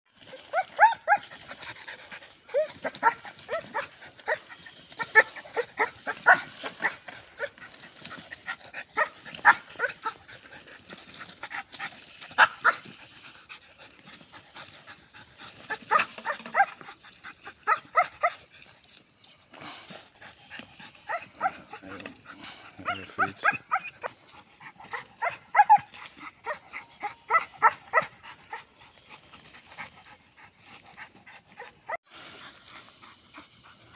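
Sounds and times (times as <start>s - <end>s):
puppies yapping: 0.2s - 19.0s, 20.2s - 33.9s.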